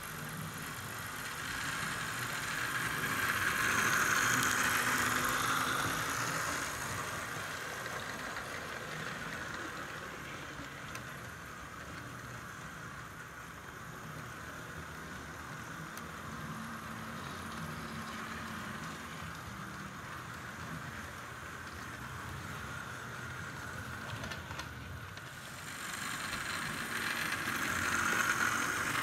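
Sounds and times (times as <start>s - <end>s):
model train motor whine: 0.0s - 29.0s
wheels rumbling on rails: 0.0s - 29.0s.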